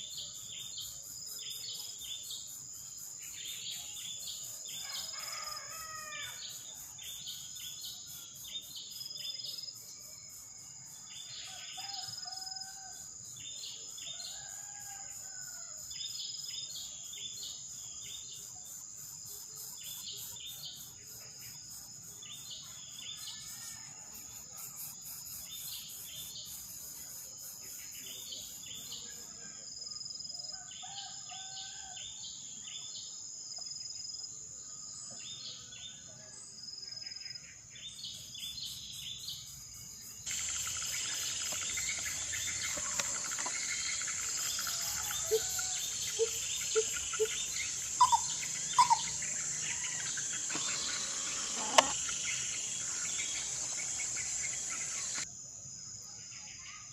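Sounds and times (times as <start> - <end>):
high insect drone: 0.0 - 29.6, 37.9 - 56.8.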